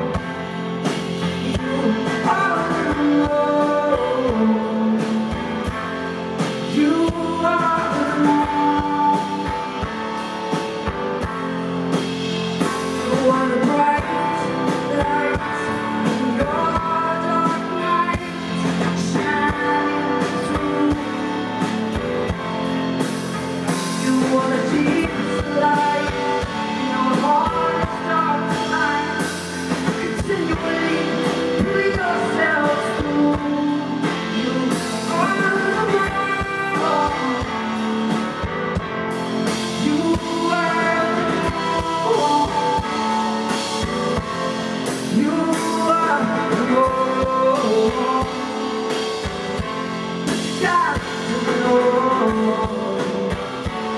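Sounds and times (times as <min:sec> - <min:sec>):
woman singing: 0:00.0 - 0:10.4, 0:12.5 - 0:22.7, 0:23.6 - 0:38.8, 0:39.4 - 0:53.9
drums: 0:00.0 - 0:53.9
guitar: 0:00.0 - 0:53.9
keyboards: 0:00.0 - 0:53.9.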